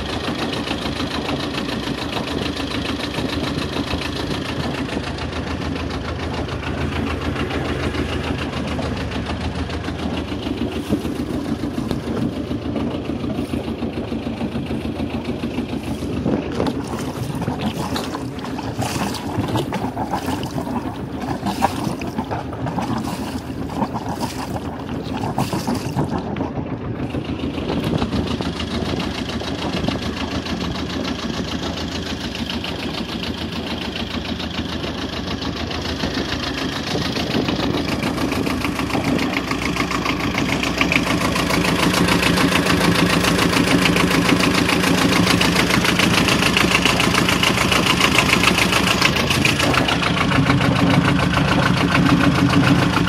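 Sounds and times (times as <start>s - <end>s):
water slapping hull: 0.0s - 35.1s, 36.0s - 53.0s
boat diesel engine running: 0.0s - 53.0s
water rushing along boat hull: 0.0s - 53.0s.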